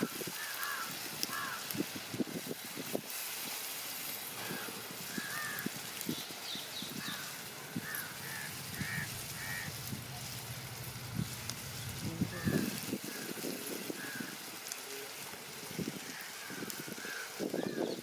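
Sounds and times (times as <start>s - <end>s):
birds calling: 0.0s - 1.7s, 4.2s - 18.0s.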